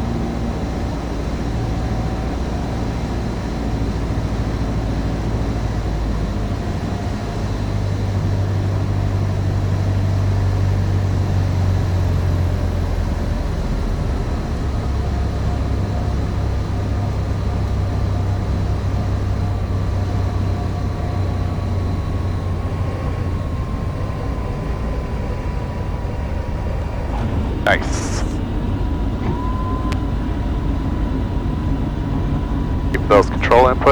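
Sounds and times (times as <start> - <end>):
light aircraft engine drone: 0.0 - 33.9.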